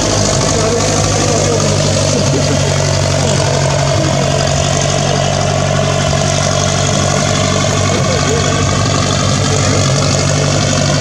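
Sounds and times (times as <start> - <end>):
propeller plane engine idling: 0.0 - 11.0.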